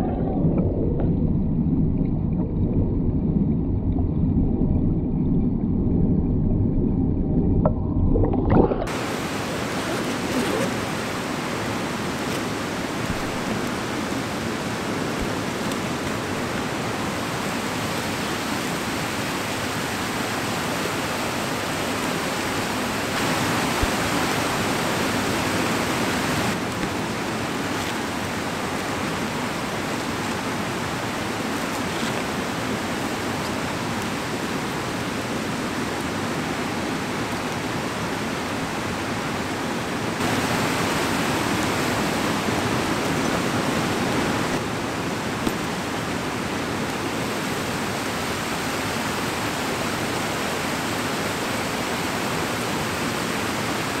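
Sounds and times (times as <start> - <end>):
water spilling over waterfall: 8.5 - 54.0.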